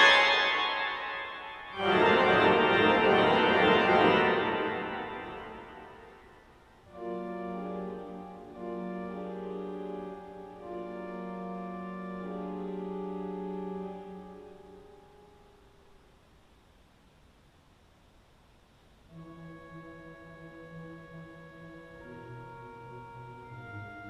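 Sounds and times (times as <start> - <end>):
pipe organ chords: 0.0 - 15.8, 19.1 - 24.0.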